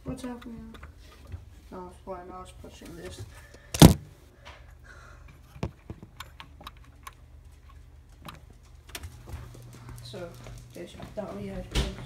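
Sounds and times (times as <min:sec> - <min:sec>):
refrigerator hum: 0:00.0 - 0:12.0.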